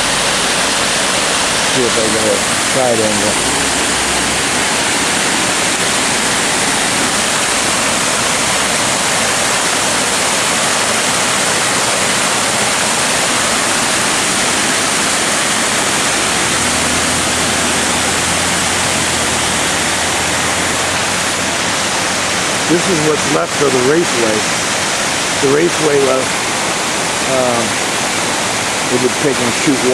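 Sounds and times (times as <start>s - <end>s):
water rushing over spillway: 0.0s - 29.9s.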